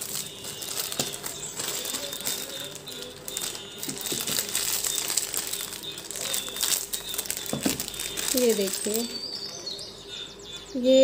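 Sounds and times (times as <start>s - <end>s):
plastic pieces clicking: 0.0s - 9.1s
plastic bags crinkling: 0.0s - 9.8s.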